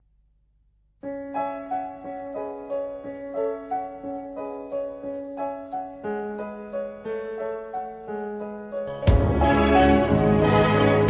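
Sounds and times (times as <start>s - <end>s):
gentle piano music: 1.0s - 11.0s.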